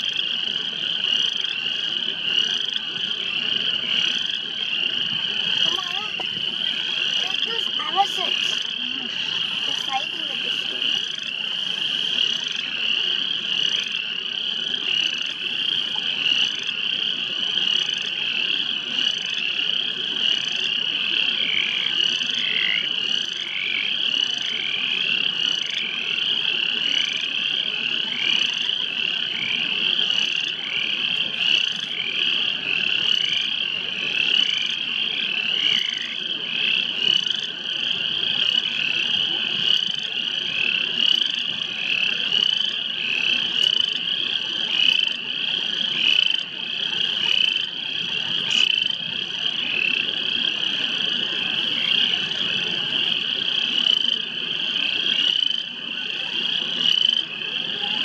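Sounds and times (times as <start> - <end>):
chorus of frogs calling: 0.0 - 58.0.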